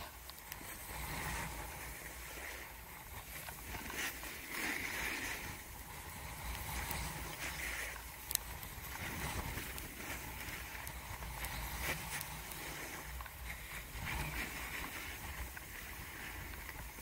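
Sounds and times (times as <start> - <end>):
snowboard scraping on snow: 0.0 - 17.0
wind rumble on microphone: 0.0 - 17.0.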